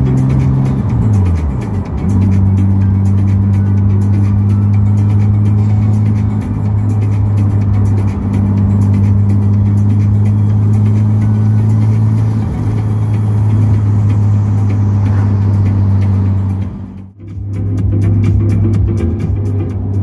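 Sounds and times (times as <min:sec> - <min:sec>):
car engine and road drone: 0:00.0 - 0:20.0
music playing: 0:00.0 - 0:20.0.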